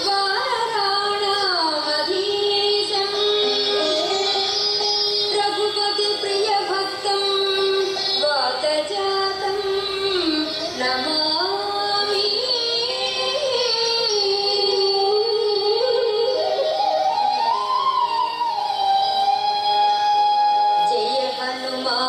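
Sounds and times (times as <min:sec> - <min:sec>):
devotional melody with sliding notes: 0:02.0 - 0:22.0.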